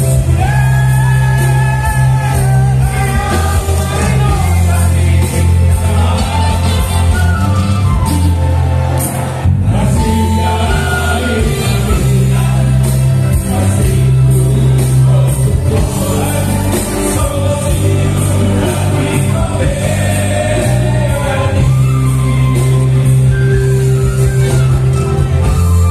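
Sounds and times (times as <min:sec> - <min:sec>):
men singing together: 0:00.0 - 0:08.0, 0:09.6 - 0:23.2
bass line: 0:00.0 - 0:25.9
live band playing: 0:00.0 - 0:25.9.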